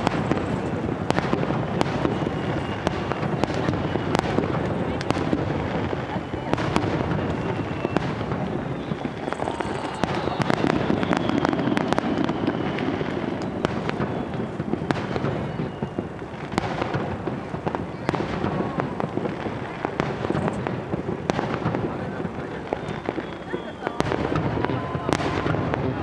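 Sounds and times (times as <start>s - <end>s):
fireworks bursting and crackling: 0.0s - 26.0s
fireworks whistles: 0.0s - 26.0s.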